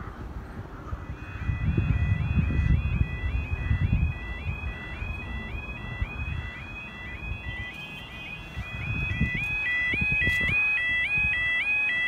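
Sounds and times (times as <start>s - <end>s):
level crossing warning alarm: 0.8s - 12.0s.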